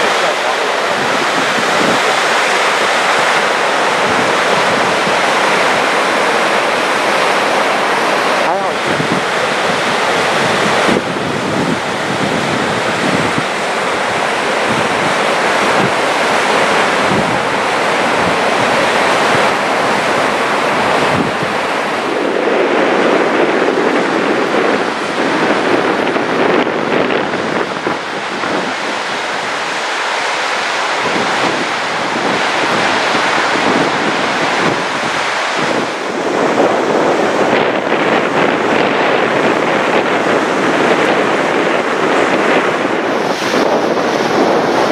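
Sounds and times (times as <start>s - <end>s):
waterfall roaring: 0.0s - 44.9s
wind buffeting microphone: 0.0s - 44.9s.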